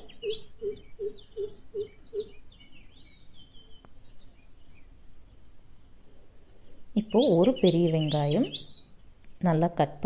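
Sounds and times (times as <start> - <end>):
high insect trill: 0.0 - 9.6
birds chirping: 0.0 - 10.0.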